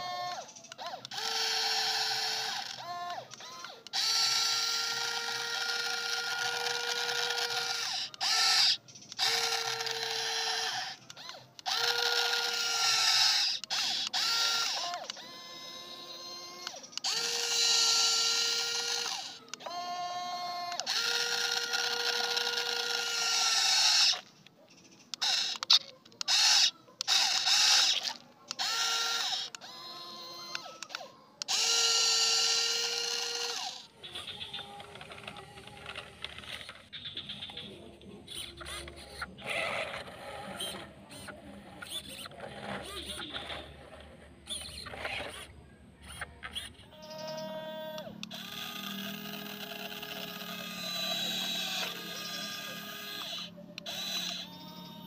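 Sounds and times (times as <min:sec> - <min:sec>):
gears clicking: 0:00.0 - 0:55.0
toy electric motors whirring: 0:00.0 - 0:55.0.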